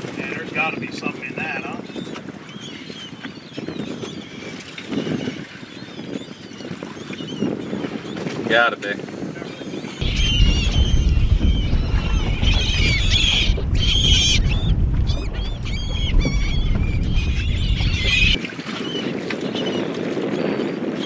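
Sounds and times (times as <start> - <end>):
low wind rumble on microphone: 0.0 - 21.0
seabirds calling: 0.2 - 21.0.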